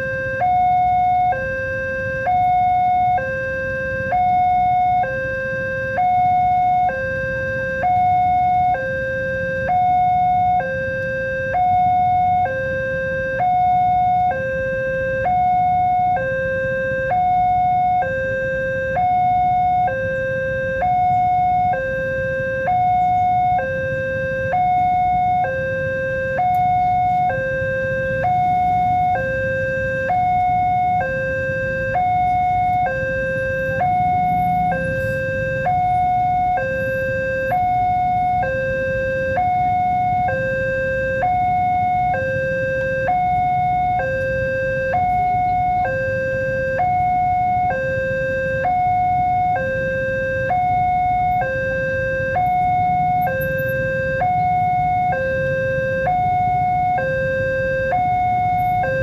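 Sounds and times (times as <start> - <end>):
low steady rumble: 0.0 - 59.0
two-tone level crossing alarm: 0.0 - 59.0.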